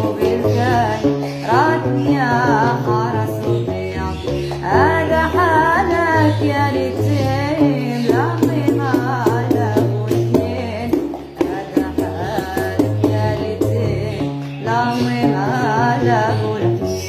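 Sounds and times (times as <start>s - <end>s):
plucked bass lute: 0.0s - 17.0s
women singing: 0.0s - 17.0s.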